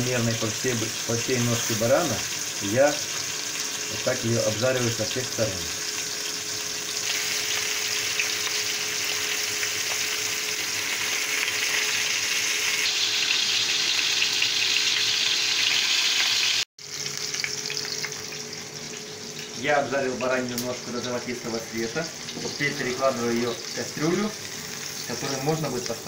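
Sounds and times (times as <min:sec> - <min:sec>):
meat sizzling in frying pan: 0:00.0 - 0:26.0.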